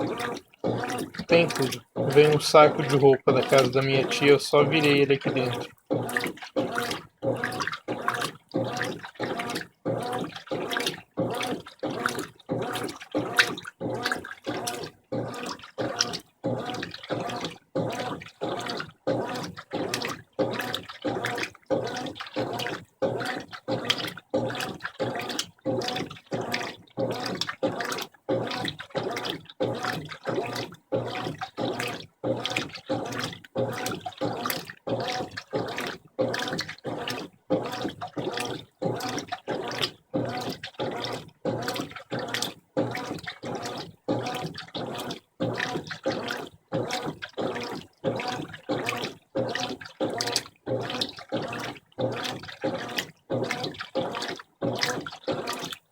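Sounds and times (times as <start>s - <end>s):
washing machine water sloshing: 0.0s - 55.9s.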